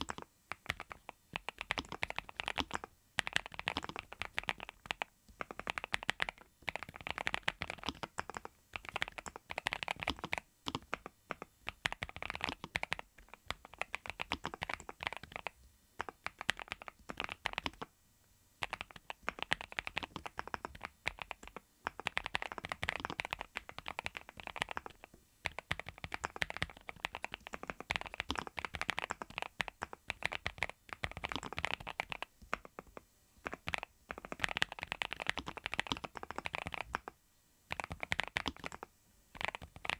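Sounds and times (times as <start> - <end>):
fast typing on mechanical keyboard: 0.0 - 17.9, 18.6 - 37.1, 37.7 - 39.9.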